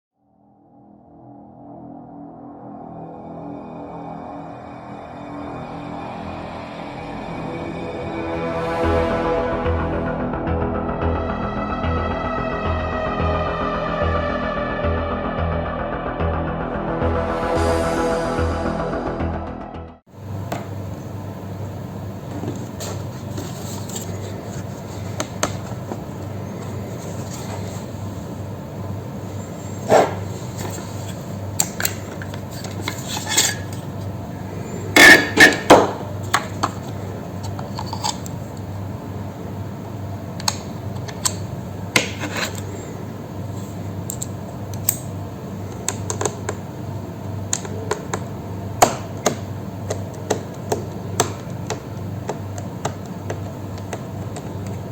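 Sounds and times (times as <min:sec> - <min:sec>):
steady low hum: 0:01.6 - 0:54.9.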